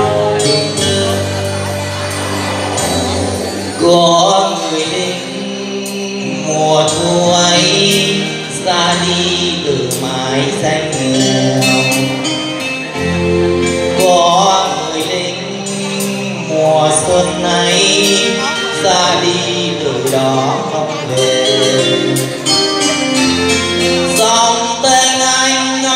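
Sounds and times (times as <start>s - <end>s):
backing music with steady beat: 0.0s - 25.9s
man singing into a microphone: 0.0s - 25.9s.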